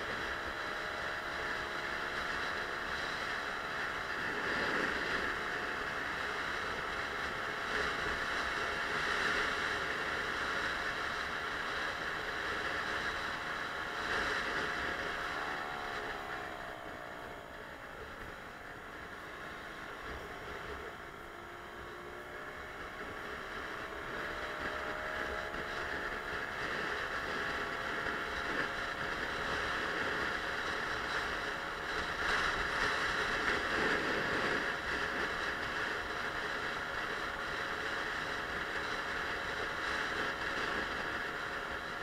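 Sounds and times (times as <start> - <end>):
scooter engine accelerating: 0.0 - 42.0
wind and road noise: 0.0 - 42.0.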